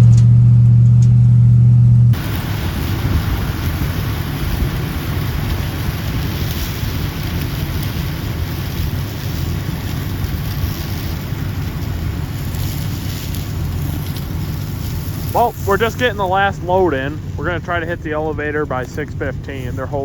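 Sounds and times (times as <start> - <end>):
low engine drone: 0.0 - 20.0
combine harvesting rush: 2.1 - 20.0.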